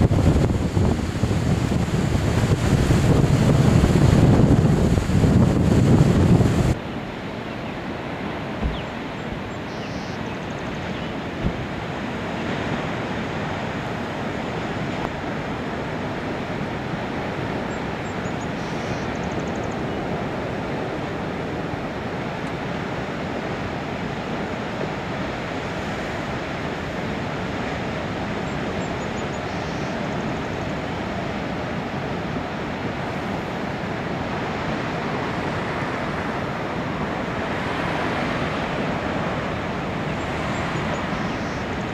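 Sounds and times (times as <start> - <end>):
distant ocean surf: 0.0 - 41.9
wind on microphone: 0.0 - 41.9.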